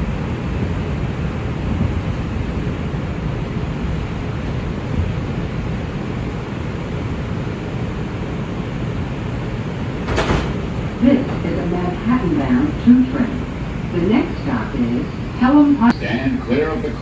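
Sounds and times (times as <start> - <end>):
subway car rumbling: 0.0 - 17.0.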